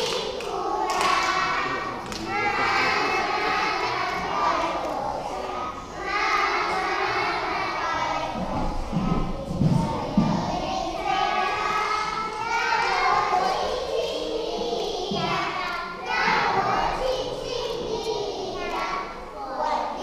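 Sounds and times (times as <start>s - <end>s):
children's voices in a hall: 0.0s - 20.0s.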